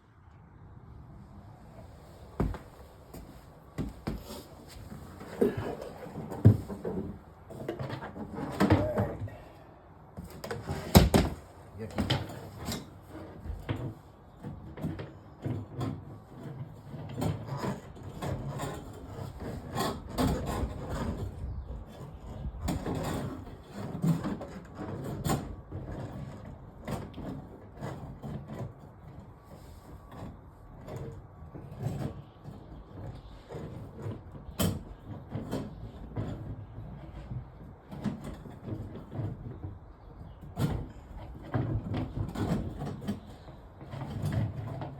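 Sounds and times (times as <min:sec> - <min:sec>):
knocks and scrapes on drain pipes: 0:02.4 - 0:09.4, 0:10.2 - 0:44.9.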